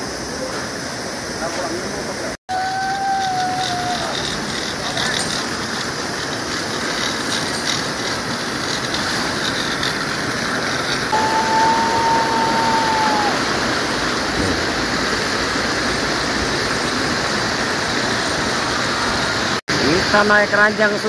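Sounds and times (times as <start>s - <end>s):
rocky stream rushing: 3.0s - 20.2s.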